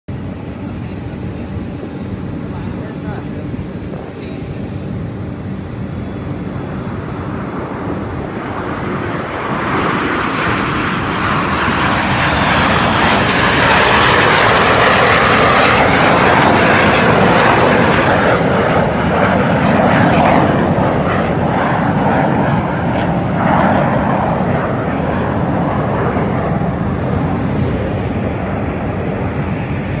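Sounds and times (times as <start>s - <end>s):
aircraft engines passing overhead: 0.1s - 30.0s.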